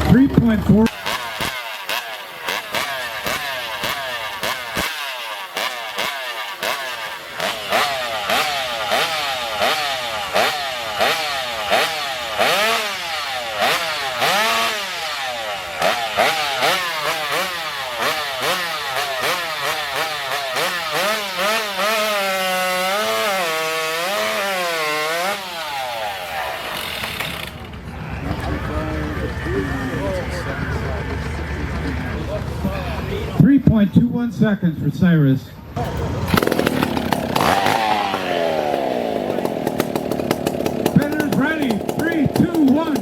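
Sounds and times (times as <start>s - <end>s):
chainsaw revving: 0.0s - 27.9s, 35.8s - 43.0s.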